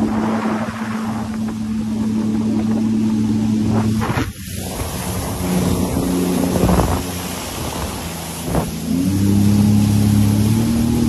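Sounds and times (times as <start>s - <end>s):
jet ski engine running: 0.0s - 11.0s
rushing water: 0.0s - 11.0s
wind on microphone: 0.0s - 11.0s.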